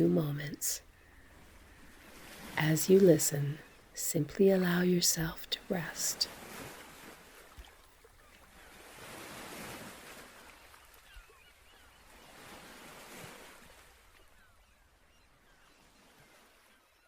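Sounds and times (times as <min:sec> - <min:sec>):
ocean waves washing onto beach: 0:00.0 - 0:14.4.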